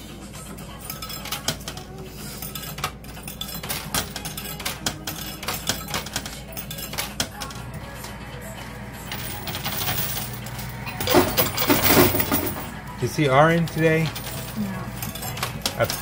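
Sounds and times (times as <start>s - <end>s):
coins clinking in coin pusher: 0.7s - 16.0s.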